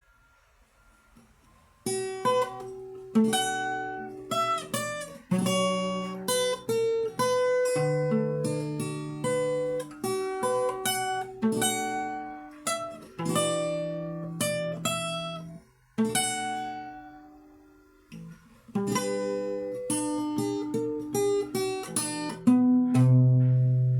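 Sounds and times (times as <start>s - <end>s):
acoustic guitar fingerstyle playing: 1.2s - 17.4s, 18.1s - 23.9s.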